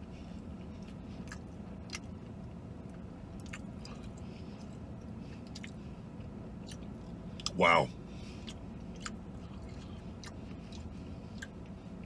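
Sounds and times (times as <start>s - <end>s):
low vehicle cabin hum: 0.0s - 12.0s
man chewing: 0.0s - 12.0s.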